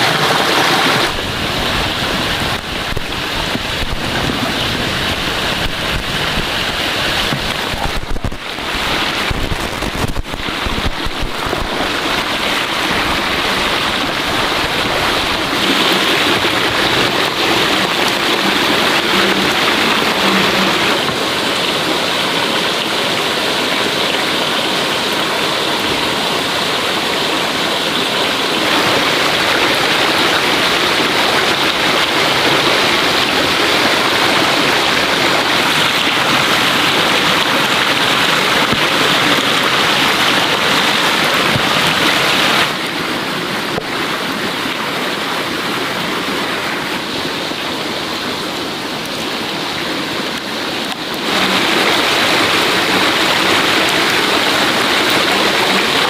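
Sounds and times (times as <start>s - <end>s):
water rushing and splashing: 0.0s - 56.0s.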